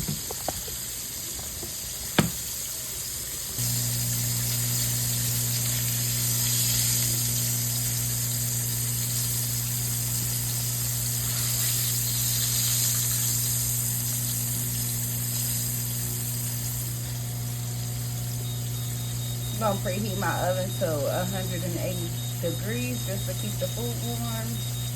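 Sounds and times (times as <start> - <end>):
food sizzling in oil: 0.0 - 24.9
constant low hum: 3.6 - 24.9.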